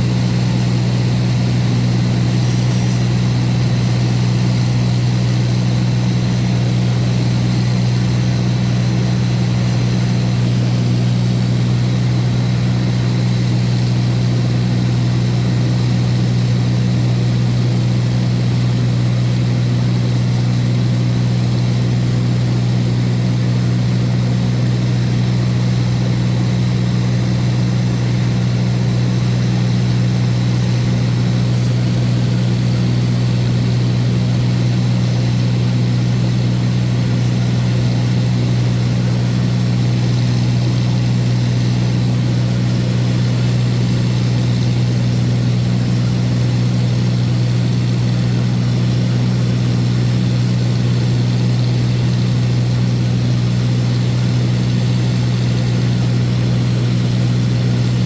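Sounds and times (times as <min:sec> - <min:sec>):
aircraft engine droning in cabin: 0:00.0 - 0:58.0.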